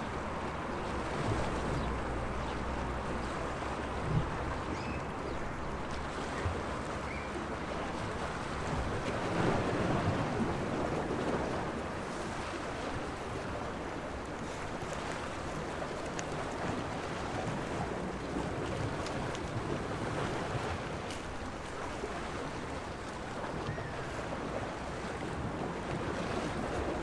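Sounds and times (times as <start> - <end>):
small waves washing: 0.0 - 27.0.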